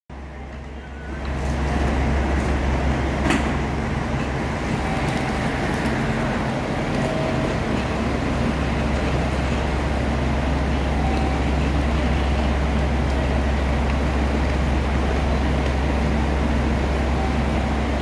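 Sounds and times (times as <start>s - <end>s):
diesel railcar engine idling: 0.1s - 18.0s.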